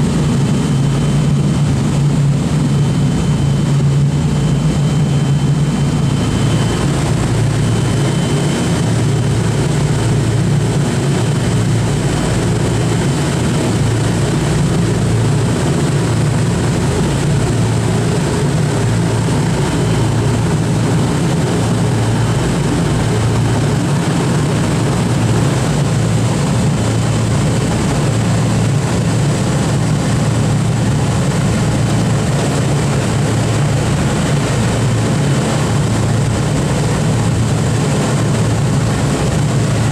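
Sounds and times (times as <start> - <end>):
piston aircraft engines droning: 0.0 - 39.9.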